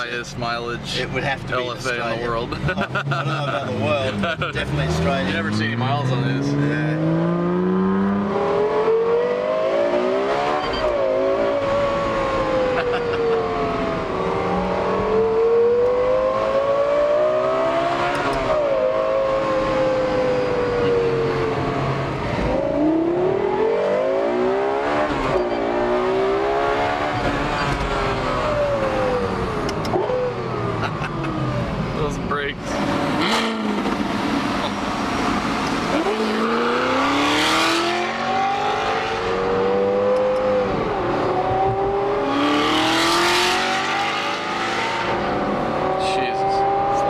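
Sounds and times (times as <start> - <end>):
car engine revving hard: 2.5 - 32.0, 32.6 - 47.0.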